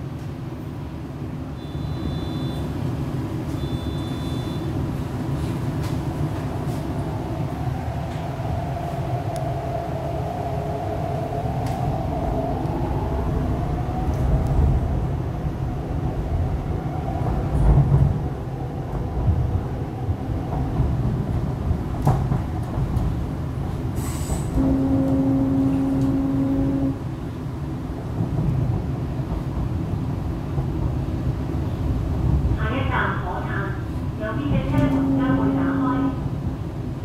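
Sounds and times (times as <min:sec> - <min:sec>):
train running low rumble: 0:00.0 - 0:37.0.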